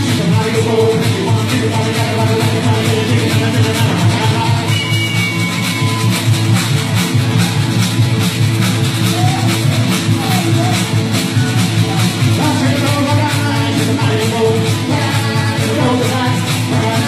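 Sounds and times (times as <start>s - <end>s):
acoustic guitar: 0.0s - 17.0s
electric guitar: 0.0s - 17.0s
steady beat: 0.0s - 17.0s.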